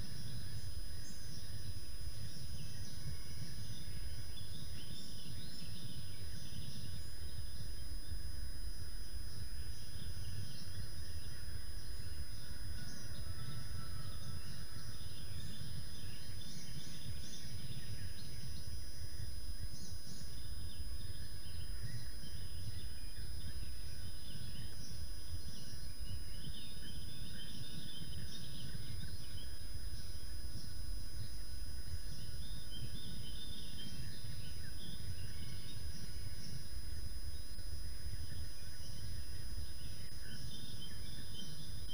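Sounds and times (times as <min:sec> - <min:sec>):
faint bird chirps: 0:00.0 - 0:41.9.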